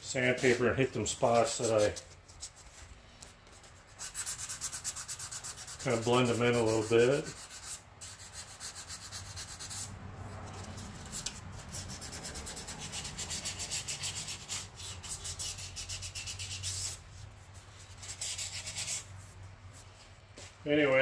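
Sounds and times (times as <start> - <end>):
sandpaper rubbing strokes: 0.2 - 2.9, 3.6 - 20.6.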